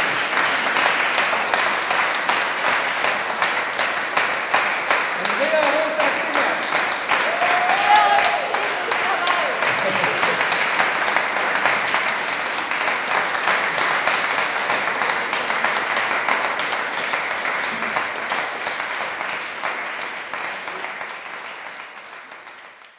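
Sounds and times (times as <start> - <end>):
audience applauding: 0.0 - 22.9.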